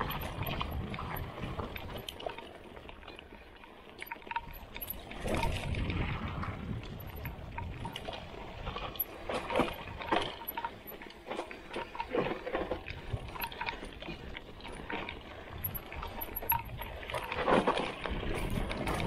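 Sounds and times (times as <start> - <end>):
bike chain and frame clatter: 0.0 - 19.0.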